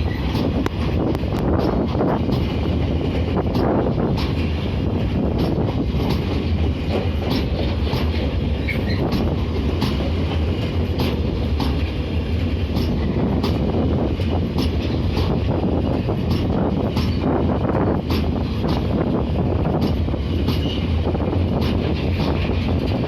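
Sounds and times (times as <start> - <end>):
freight train rumbling: 0.0 - 23.0
wheels clicking over rail joints: 0.0 - 23.0.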